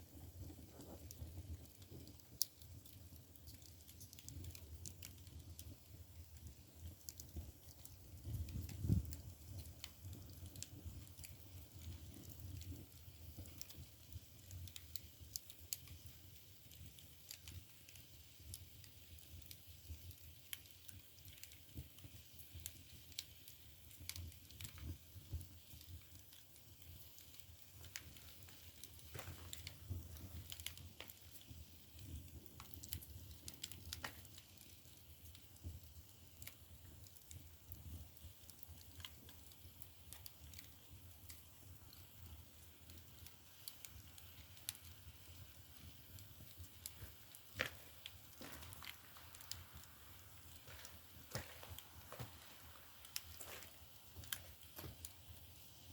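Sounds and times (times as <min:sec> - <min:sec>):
firewood crackling and popping: 0:00.0 - 0:55.9.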